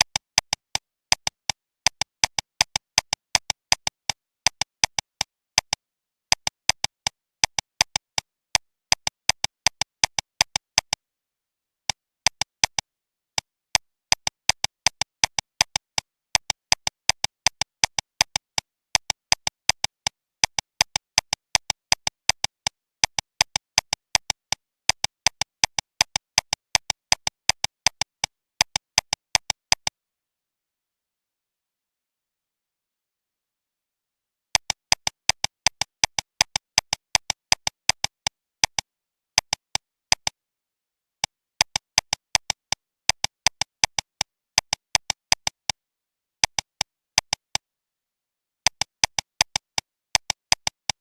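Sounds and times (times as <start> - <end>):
sharp dry clicks: 0.0 - 11.0, 11.9 - 12.8, 13.4 - 29.9, 34.5 - 40.4, 41.6 - 45.8, 46.4 - 47.6, 48.6 - 51.0.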